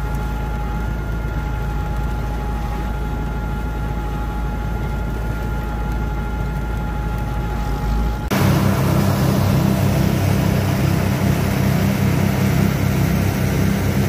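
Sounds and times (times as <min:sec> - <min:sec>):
feed mixer whine: 0:00.0 - 0:14.0
tractor engine drone: 0:00.0 - 0:14.0.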